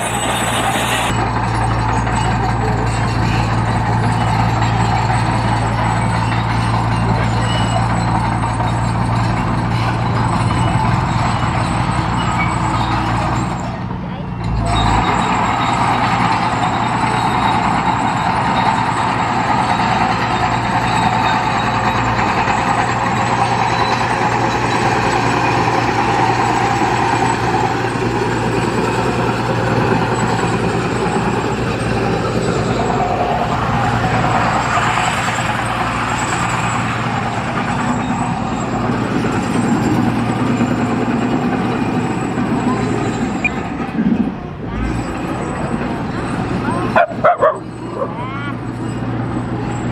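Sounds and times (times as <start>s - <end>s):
higher-pitched machinery noise: 0.0s - 13.7s, 14.4s - 49.9s
large diesel engine running: 0.0s - 49.9s.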